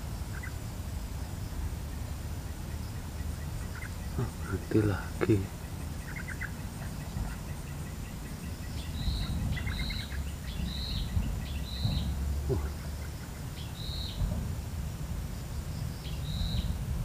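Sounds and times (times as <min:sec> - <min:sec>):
bird calling: 0:00.0 - 0:14.4, 0:15.4 - 0:16.8
steady low rumble: 0:00.0 - 0:17.0.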